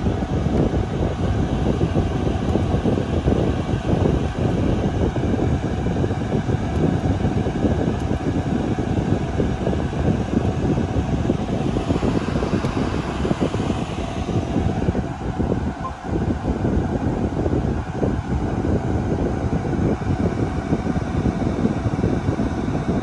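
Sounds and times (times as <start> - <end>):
cooling fans rushing: 0.0 - 23.0.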